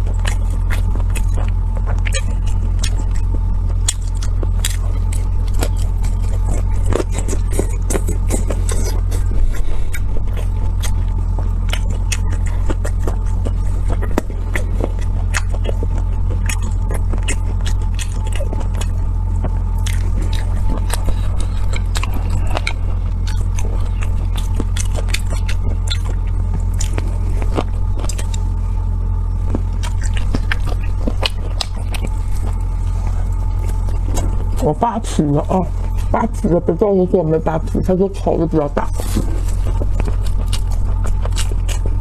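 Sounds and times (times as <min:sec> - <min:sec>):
biting and chewing: 0:00.0 - 0:42.0
low hum: 0:00.0 - 0:42.0.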